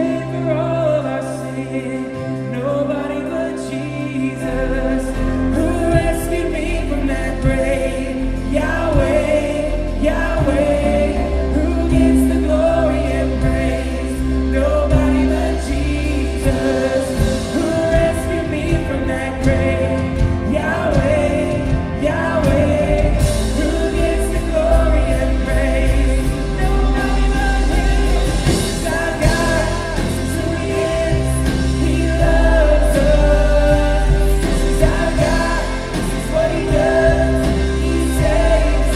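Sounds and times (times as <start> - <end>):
worship band with singers: 0.0 - 38.9.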